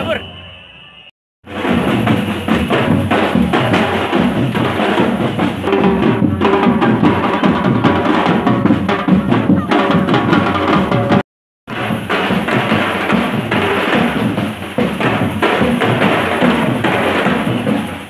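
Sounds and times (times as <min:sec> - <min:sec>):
marching drum corps: 0:01.4 - 0:18.0.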